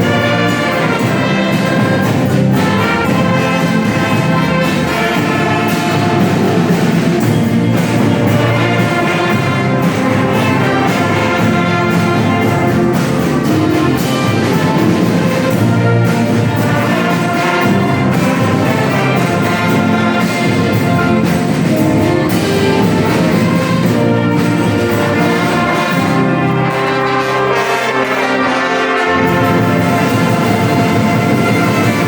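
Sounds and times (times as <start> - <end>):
brass band playing: 0.0 - 32.0.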